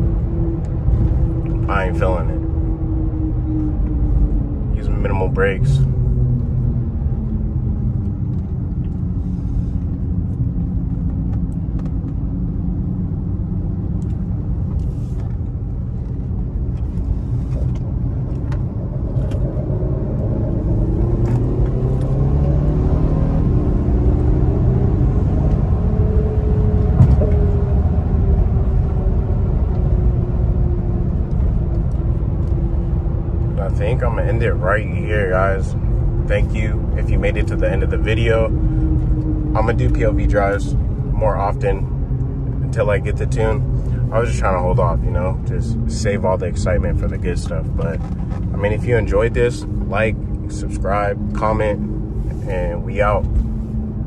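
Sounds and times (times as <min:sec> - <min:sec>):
car engine accelerating: 0:00.0 - 0:54.0
road rumble: 0:00.0 - 0:54.0.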